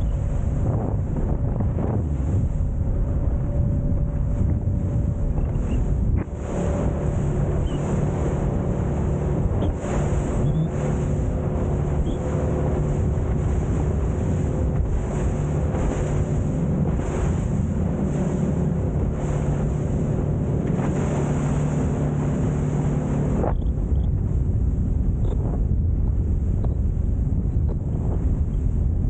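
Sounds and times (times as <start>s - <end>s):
sea water rushing: 0.0s - 23.6s
boat engine running: 0.0s - 29.0s
wind buffeting microphone: 0.0s - 29.0s.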